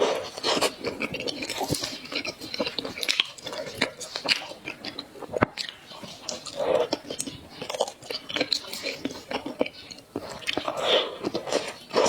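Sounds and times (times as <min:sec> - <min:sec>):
crunchy chewing and biting: 0:00.0 - 0:12.0.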